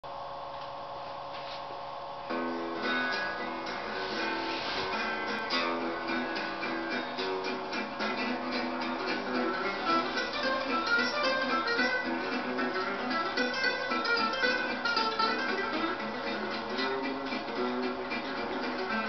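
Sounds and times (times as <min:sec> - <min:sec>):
held guitar chord: 0:02.3 - 0:19.0
plucked guitar notes: 0:02.3 - 0:19.0.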